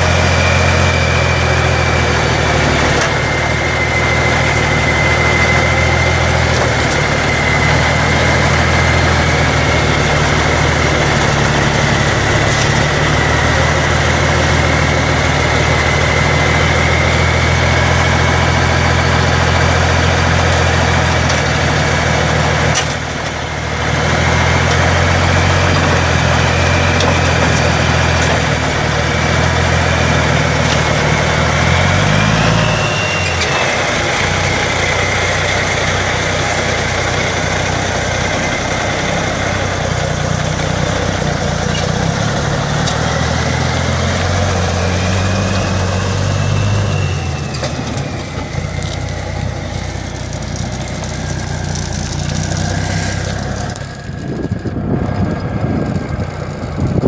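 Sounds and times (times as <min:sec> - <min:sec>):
diesel truck engine idling: 0:00.0 - 0:57.0
high whine: 0:00.0 - 0:57.0.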